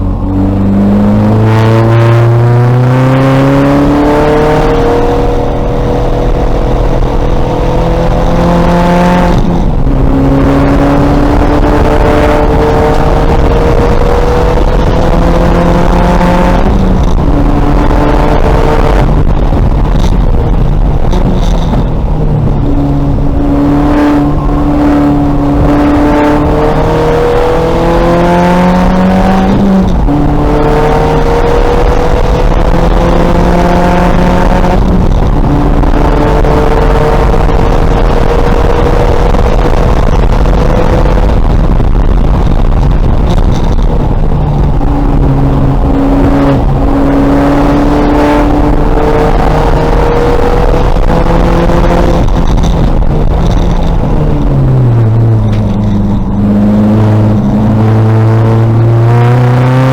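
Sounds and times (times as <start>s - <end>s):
race car engine revving: 0.0s - 59.9s
road and wind noise: 0.0s - 59.9s.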